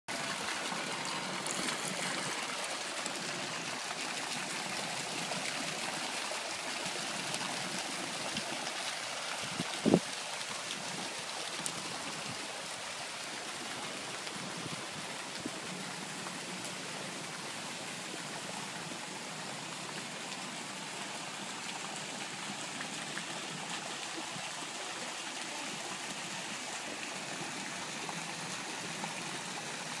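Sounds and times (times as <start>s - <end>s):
fountain water splashing into pool: 0.1s - 30.0s.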